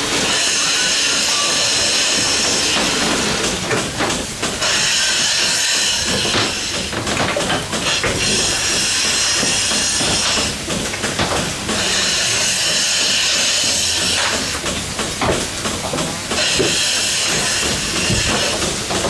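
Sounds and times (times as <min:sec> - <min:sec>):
milking machine hissing air: 0:00.0 - 0:07.0, 0:07.7 - 0:10.8, 0:11.4 - 0:19.0.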